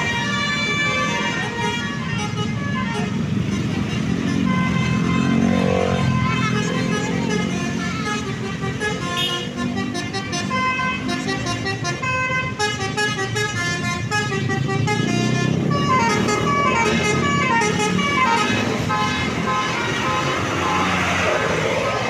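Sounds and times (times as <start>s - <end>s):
musical bus horn playing a tune: 0.0s - 21.0s
bus engine rumble: 0.0s - 22.0s.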